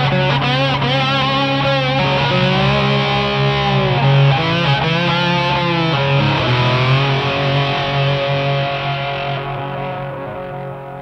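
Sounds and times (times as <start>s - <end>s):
guitar with bending notes: 0.0s - 11.0s
low bass note: 2.1s - 11.0s.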